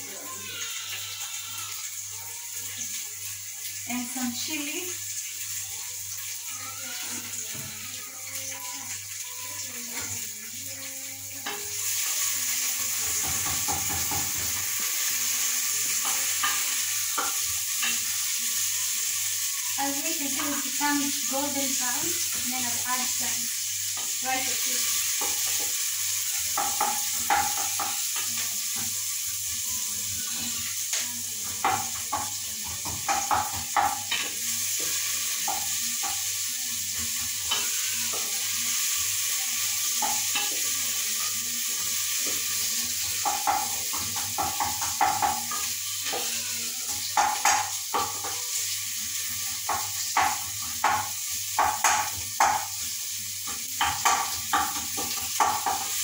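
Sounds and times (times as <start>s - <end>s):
onions sizzling in a pot: 0.0s - 56.0s.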